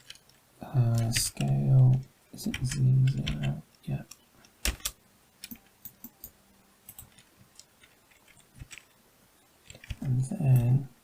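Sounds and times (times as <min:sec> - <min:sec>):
keyboard keys clicking: 0:00.9 - 0:08.9, 0:09.6 - 0:10.7.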